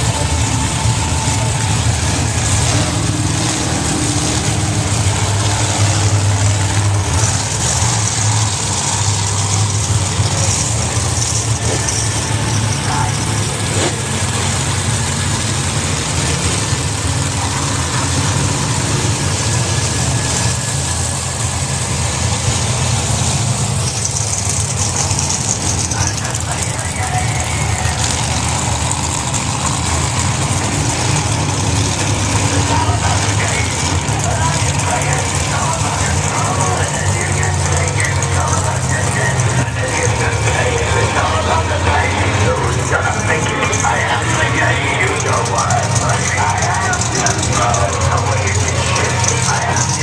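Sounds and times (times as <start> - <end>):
monster truck engines idling: 0.0 - 50.0.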